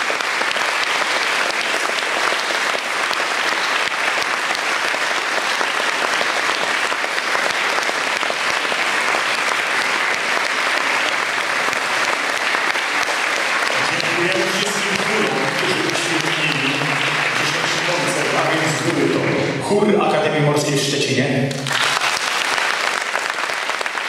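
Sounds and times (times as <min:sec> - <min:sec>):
choir clapping along: 0:00.0 - 0:19.6, 0:21.5 - 0:24.0
audience applauding: 0:00.0 - 0:19.7, 0:21.5 - 0:24.0.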